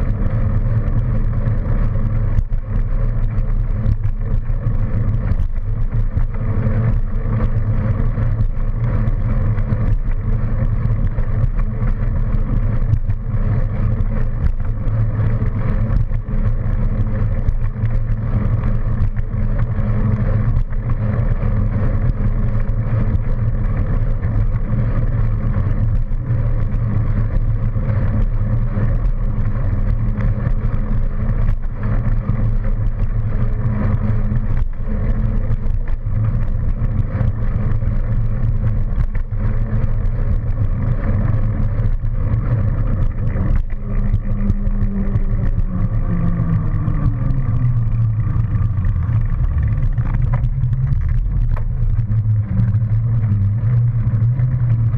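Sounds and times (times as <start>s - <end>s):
wind and ride rumble: 0.0s - 54.9s.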